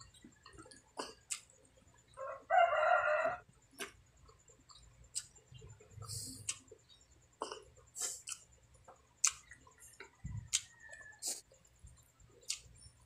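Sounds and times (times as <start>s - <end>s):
wet chewing and lip smacks: 0.0s - 1.6s, 3.8s - 12.9s.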